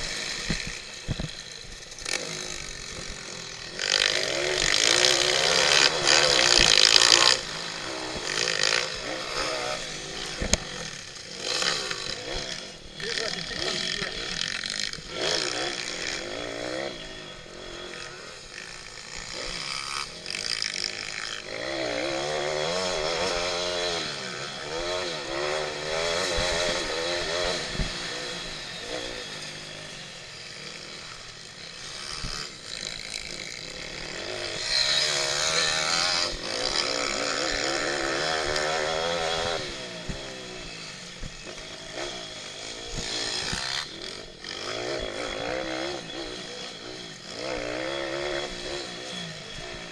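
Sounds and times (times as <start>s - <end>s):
pit bike engines revving: 0.0s - 49.9s.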